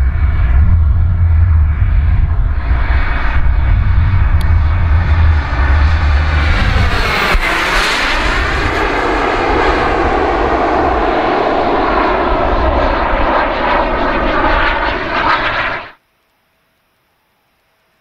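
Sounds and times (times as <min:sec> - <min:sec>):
model airplane engine flying by: 0:00.0 - 0:16.0.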